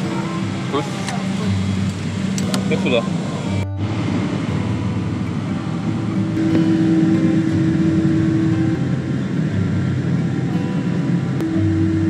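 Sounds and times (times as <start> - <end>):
airliner cabin hum: 0.0 - 12.0
steady tone: 0.0 - 12.0.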